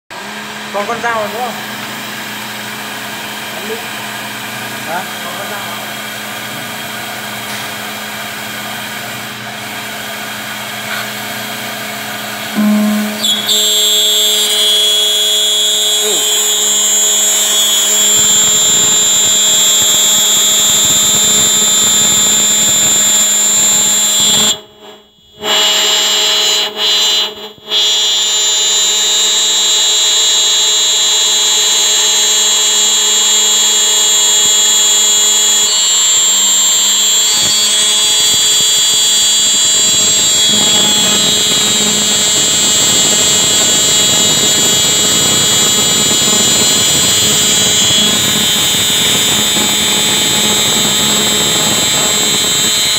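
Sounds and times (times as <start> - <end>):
dense machine noise: 0.1 - 25.7, 28.3 - 52.9
milling machine spindle whine: 0.2 - 24.6, 28.5 - 52.9.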